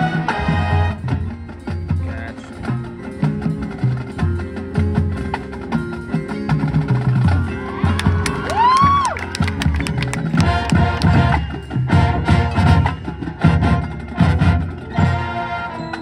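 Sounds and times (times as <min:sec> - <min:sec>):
marching band playing: 0:00.0 - 0:16.0
sharp percussion strikes: 0:00.0 - 0:16.0.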